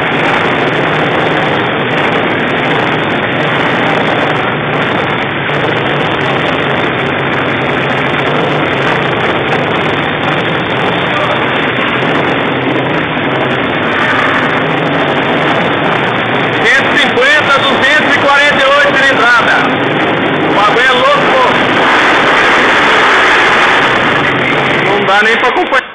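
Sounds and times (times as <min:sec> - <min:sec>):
motorcycle engine running steadily: 0:00.0 - 0:25.9.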